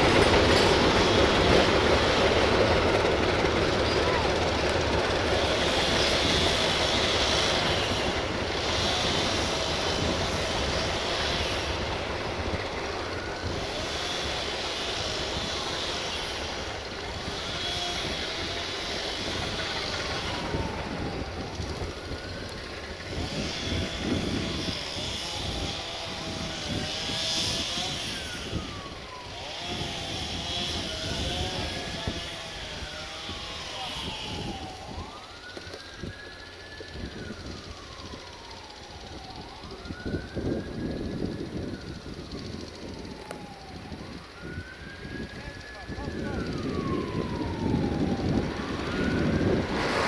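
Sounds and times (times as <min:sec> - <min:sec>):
train engine drone: 0:00.0 - 0:50.0.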